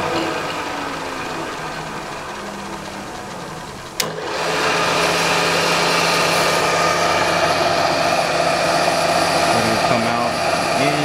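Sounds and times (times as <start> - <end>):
milling machine motor running: 0.0 - 11.0.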